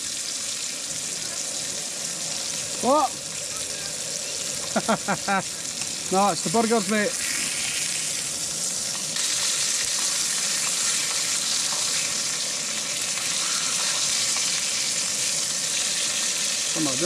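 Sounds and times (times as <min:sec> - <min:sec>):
patties sizzling in frying pan: 0:00.0 - 0:17.0.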